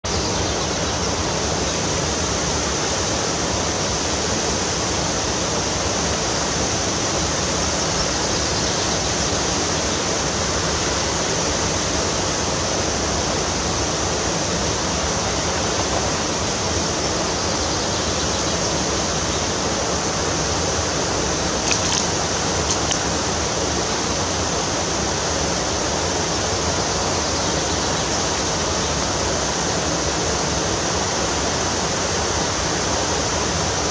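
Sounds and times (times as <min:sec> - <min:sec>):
fast-flowing river water: 0:00.1 - 0:33.9.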